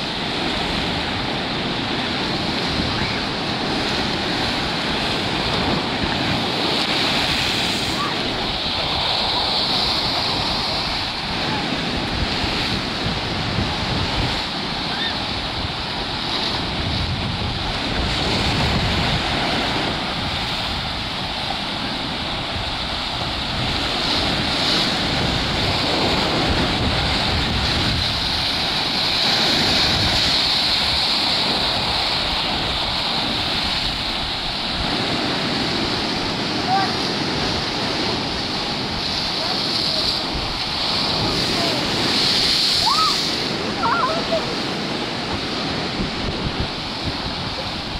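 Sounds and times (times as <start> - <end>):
sea surf breaking on shore: 0.0 - 47.9
wind buffeting microphone: 0.0 - 47.9.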